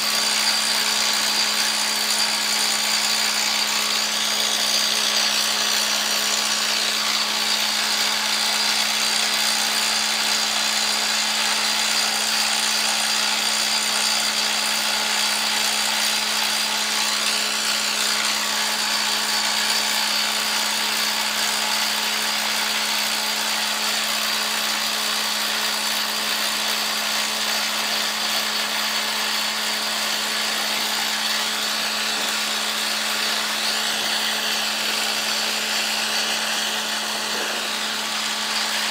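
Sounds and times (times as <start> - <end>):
drilling rig running: 0.0 - 38.9.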